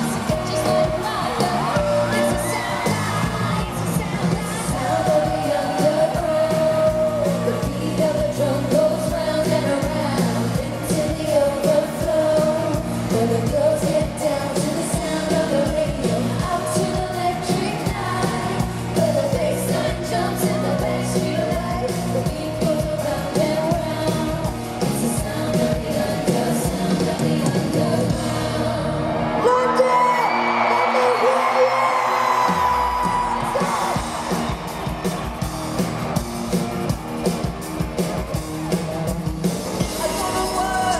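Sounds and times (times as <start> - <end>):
women singing live pop: 0.0 - 34.9, 39.8 - 40.9
amplified band playing: 0.0 - 40.9.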